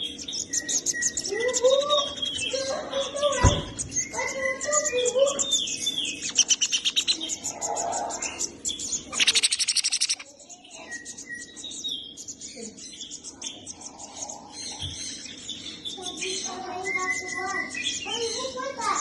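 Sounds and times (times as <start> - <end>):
parrot chirping: 0.0 - 19.0.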